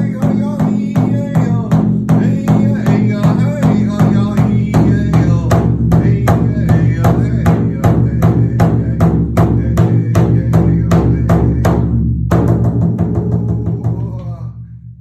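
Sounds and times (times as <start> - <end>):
man singing: 0.0 - 14.8
large drum beating steadily: 0.0 - 15.0.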